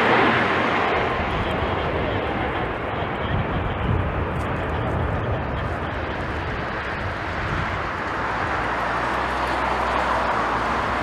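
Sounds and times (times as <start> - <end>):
jet airliner engine rushing: 0.0 - 11.0.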